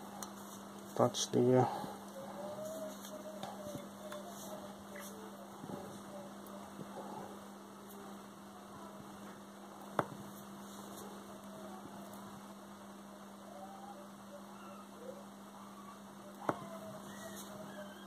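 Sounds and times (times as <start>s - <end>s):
transformer electrical hum: 0.0s - 18.0s.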